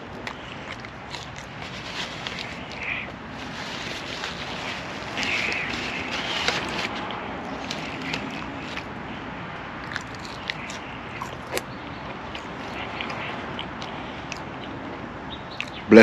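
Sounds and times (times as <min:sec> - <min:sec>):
person biting and chewing: 0:00.0 - 0:09.0, 0:09.8 - 0:14.8.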